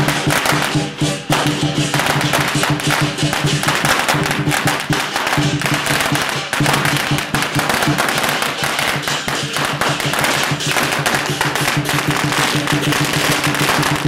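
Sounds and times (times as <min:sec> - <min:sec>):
firecrackers crackling: 0:00.0 - 0:14.0
music: 0:00.0 - 0:14.0.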